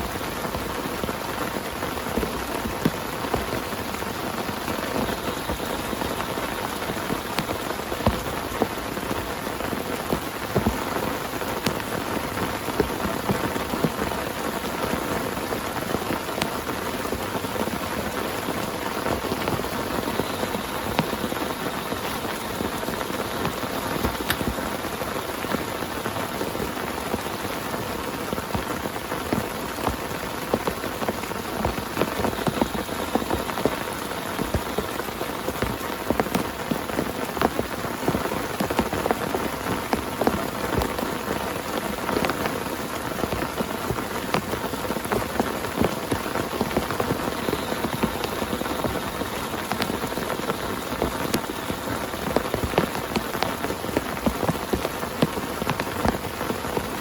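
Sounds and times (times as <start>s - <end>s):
heavy rain on a tent: 0.0s - 57.0s.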